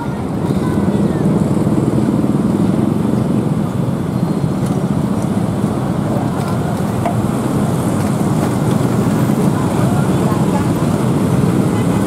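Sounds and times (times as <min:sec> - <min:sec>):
motorcycle engines idling and pulling away: 0:00.0 - 0:12.0.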